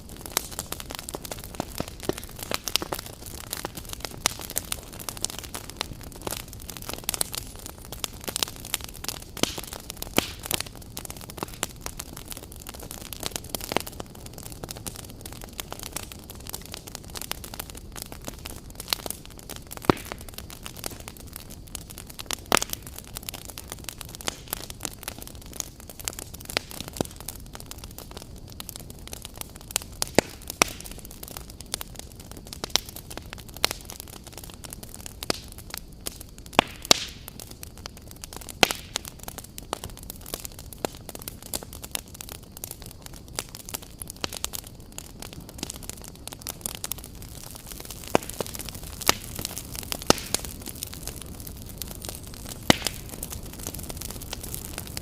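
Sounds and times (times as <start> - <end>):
fire crackles and pops: 0.0 - 55.0
wood fire low rush: 0.0 - 55.0.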